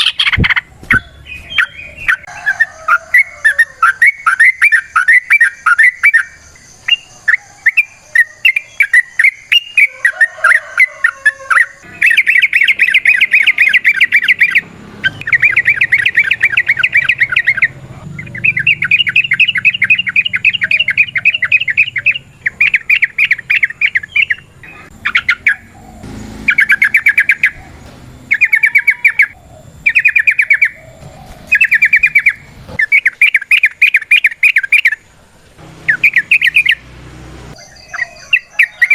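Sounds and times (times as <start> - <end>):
bird chirping: 0.0 - 38.9
bird rapid rolling trills: 0.0 - 38.9.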